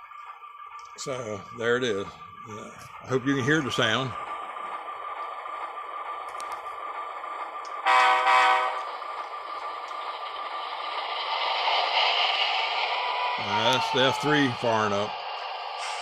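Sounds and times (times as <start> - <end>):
thin diesel engine sound: 1.0 - 16.0.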